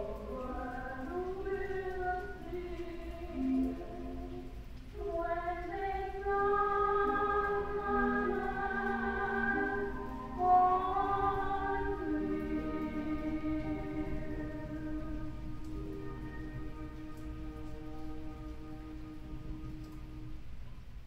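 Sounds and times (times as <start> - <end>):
choir singing in harmony: 0.0 - 20.3.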